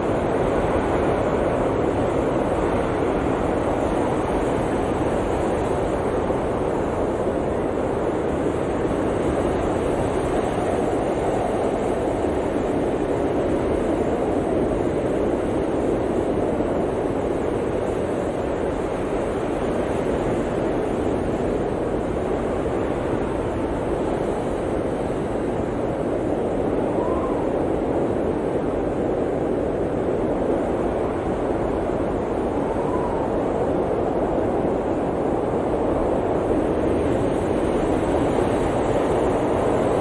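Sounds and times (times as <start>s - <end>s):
blizzard wind rushing: 0.0s - 40.0s.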